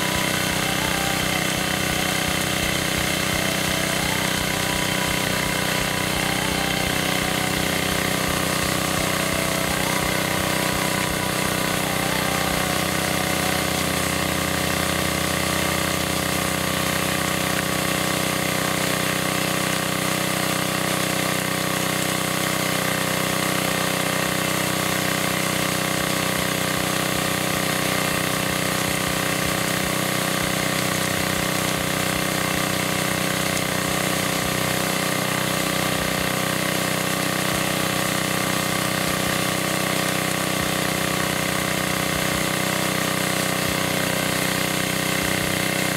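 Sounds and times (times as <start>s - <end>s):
small gasoline engine running: 0.0s - 45.9s.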